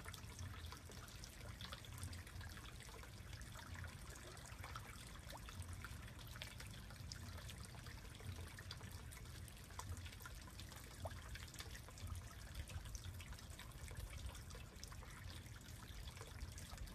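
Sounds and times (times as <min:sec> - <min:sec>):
trickling pond water: 0:00.0 - 0:16.9
water drips and splashes: 0:00.0 - 0:16.9.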